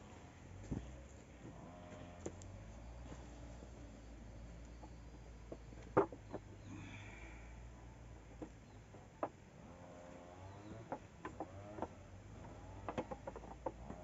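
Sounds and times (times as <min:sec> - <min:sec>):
bamboo bed creaking and clicking: 0:00.5 - 0:06.9, 0:08.1 - 0:14.0.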